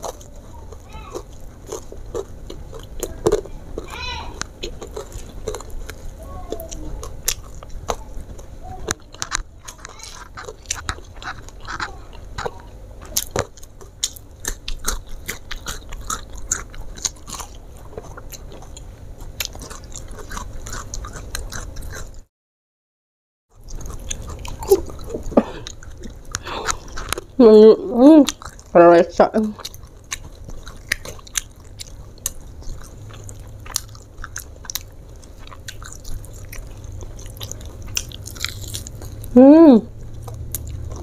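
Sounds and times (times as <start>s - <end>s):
person chewing and crunching food: 0.0s - 22.3s, 23.5s - 41.0s.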